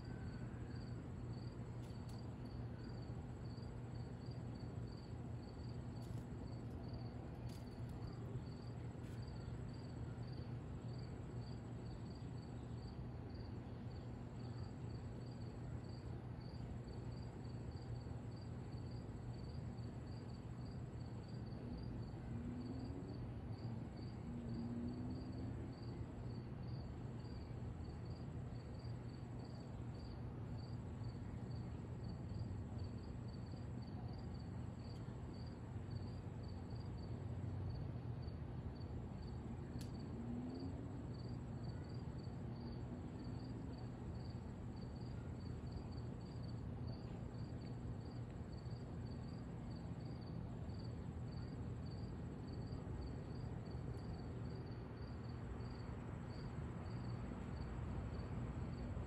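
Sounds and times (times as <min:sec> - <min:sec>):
crickets chirping: 0:00.0 - 0:59.0
faint low hum: 0:00.0 - 0:59.0.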